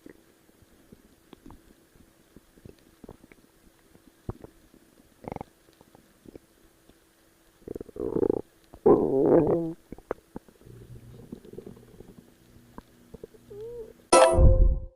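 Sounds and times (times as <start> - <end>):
stomach growling: 0.0 - 6.6, 7.6 - 14.0.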